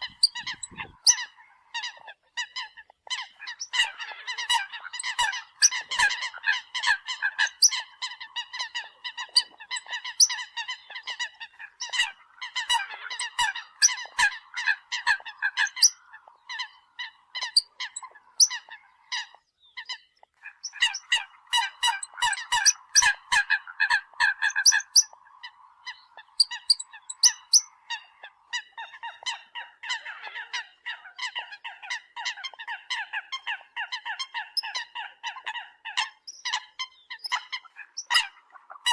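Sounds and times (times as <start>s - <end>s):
birds honking: 0.0s - 19.4s, 20.0s - 38.9s.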